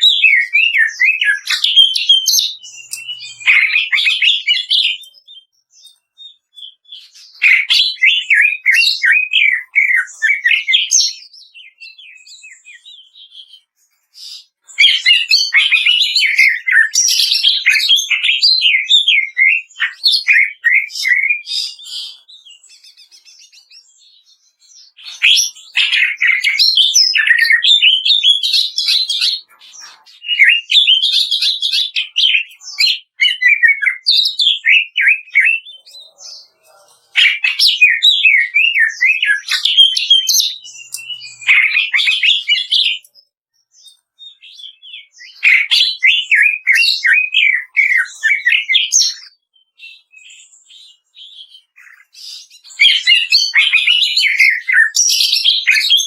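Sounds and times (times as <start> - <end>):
bird singing chattering phrases: 0.0 - 56.0.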